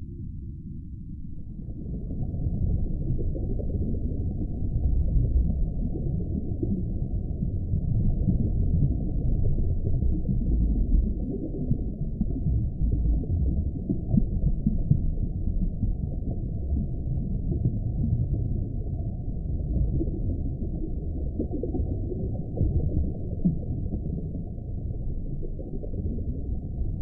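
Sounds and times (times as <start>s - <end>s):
deep muffled rumbling drone: 0.0s - 27.0s.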